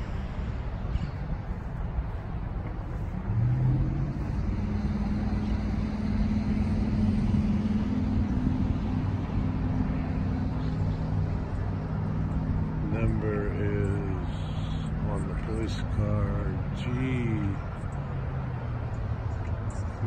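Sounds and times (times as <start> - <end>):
vehicle engine running: 0.0 - 20.0
wind rumble on microphone: 0.0 - 20.0.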